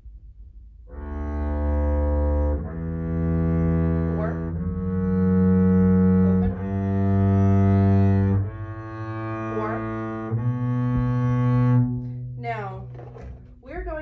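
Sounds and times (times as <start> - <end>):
double bass bowed notes: 0.9 - 14.0.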